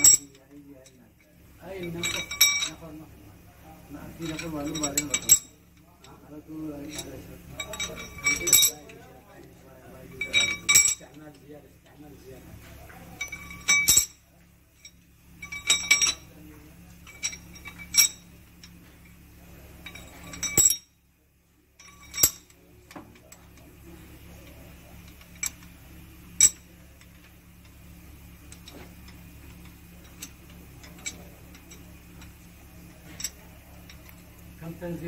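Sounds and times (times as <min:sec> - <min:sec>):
metal tools clinking on engine: 0:00.0 - 0:21.1, 0:21.7 - 0:35.0
low steady hum: 0:00.0 - 0:35.0.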